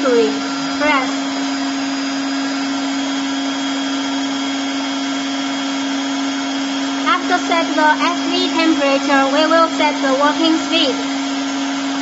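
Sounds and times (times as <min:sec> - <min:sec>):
blower motor hum-whine: 0:00.0 - 0:12.0.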